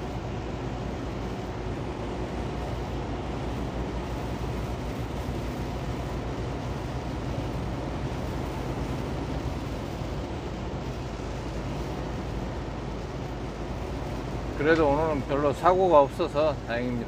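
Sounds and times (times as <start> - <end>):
rain on truck: 0.0 - 17.0
truck engine rumble: 0.0 - 17.0
tyres hissing on wet road: 0.0 - 17.0.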